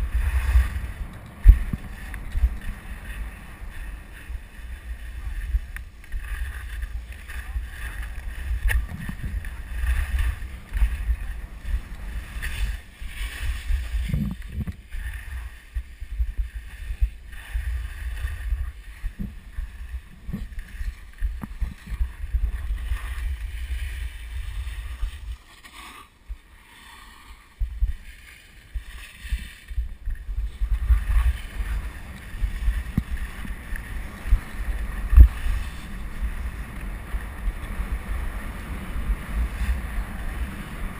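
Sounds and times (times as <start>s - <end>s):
wind buffeting microphone: 0.0s - 25.4s, 27.5s - 40.9s
skis hissing on snow: 0.0s - 40.9s.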